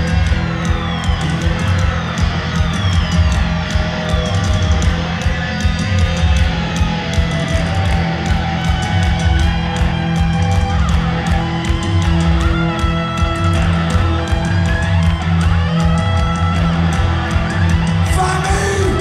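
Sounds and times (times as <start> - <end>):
live punk rock band: 0.0 - 19.0.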